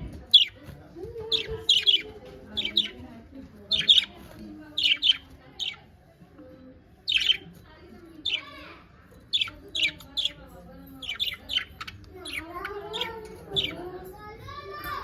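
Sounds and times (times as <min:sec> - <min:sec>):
parakeets chirping: 0:00.0 - 0:06.2, 0:06.9 - 0:14.4.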